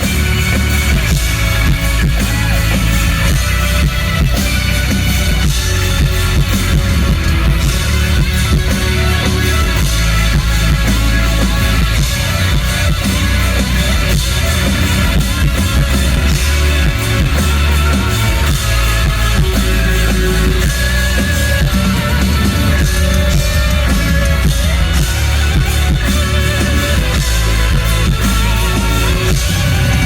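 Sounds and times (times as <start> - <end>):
bass guitar: 0.0 - 30.0
distorted electric guitars: 0.0 - 30.0
drum kit: 0.0 - 30.0.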